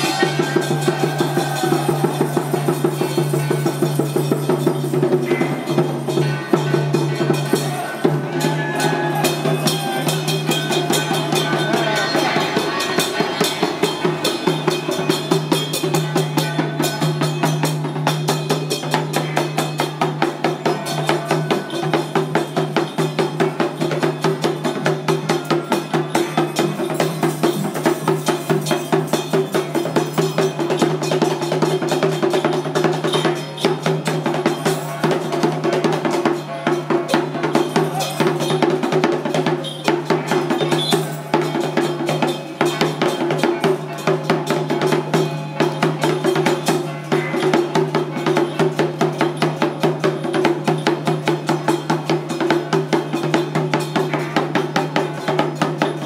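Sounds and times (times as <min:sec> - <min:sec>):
fast drumming: 0:00.0 - 0:56.0
rapid struck percussion: 0:00.0 - 0:56.0.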